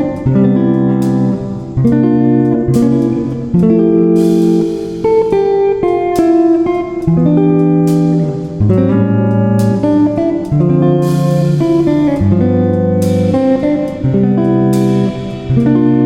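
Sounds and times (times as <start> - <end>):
guitar chords plucked and strummed: 0.0 - 16.0.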